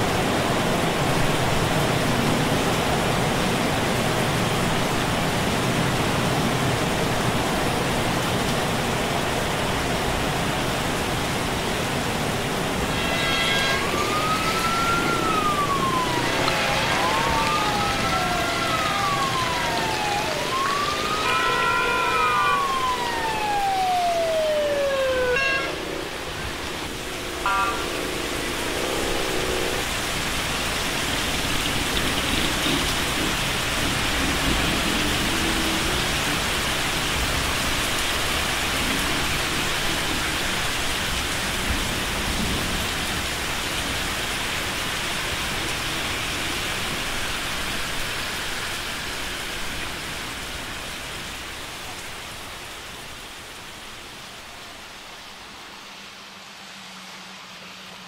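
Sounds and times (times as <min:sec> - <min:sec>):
heavy running water: 0:00.0 - 0:57.8.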